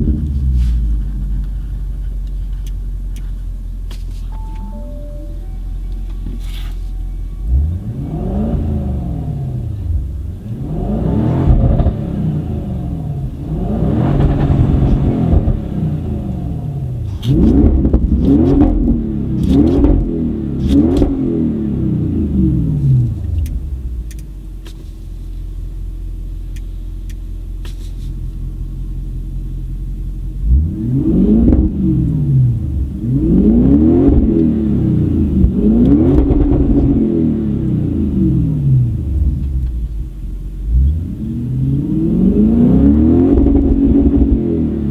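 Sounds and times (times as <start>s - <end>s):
car engine revving: 0.0s - 25.3s, 26.1s - 44.9s
car engine idling: 0.0s - 44.9s
exhaust cracks: 5.8s - 29.0s, 30.3s - 44.9s.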